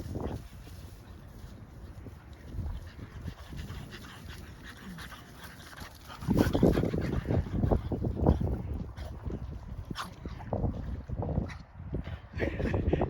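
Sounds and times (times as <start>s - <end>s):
dogs playing: 0.0s - 12.8s
dogs panting: 1.8s - 13.0s.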